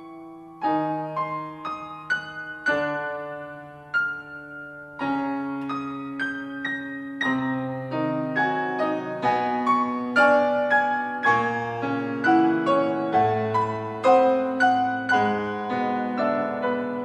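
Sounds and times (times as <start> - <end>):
slow solo piano piece: 0.0 - 17.0.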